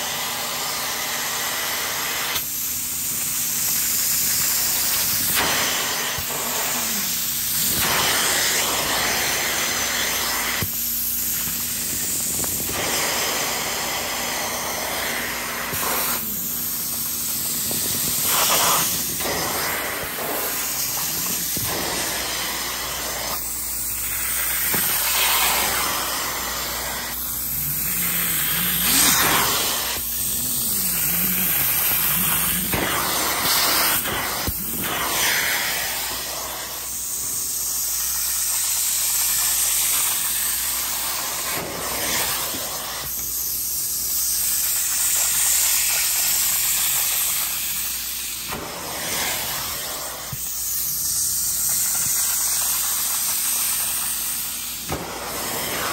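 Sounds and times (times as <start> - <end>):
hissing suction rush: 3.4 - 55.9.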